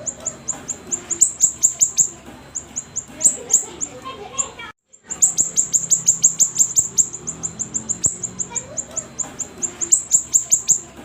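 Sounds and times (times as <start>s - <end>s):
bird chirping rapidly: 0.0s - 11.0s.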